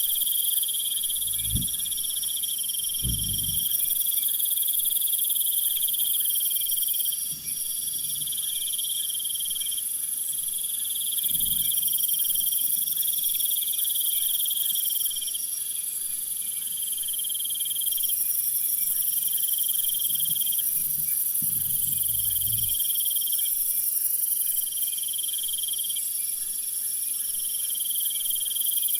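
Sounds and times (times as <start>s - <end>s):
insects chirring: 0.0s - 26.2s.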